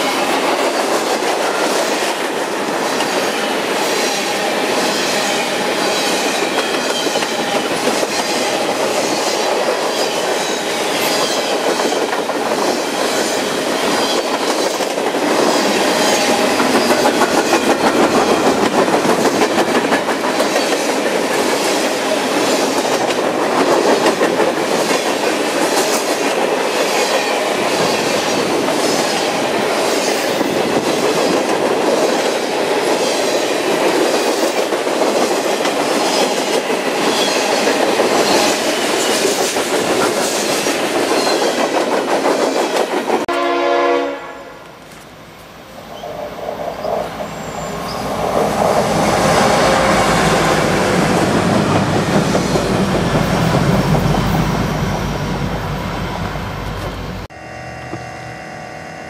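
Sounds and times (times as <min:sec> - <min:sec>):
clickety-clack of wheels on rail joints: 0:00.0 - 0:43.5, 0:44.6 - 0:57.3
freight train rumble and rattle: 0:00.0 - 0:44.2, 0:44.8 - 0:57.3.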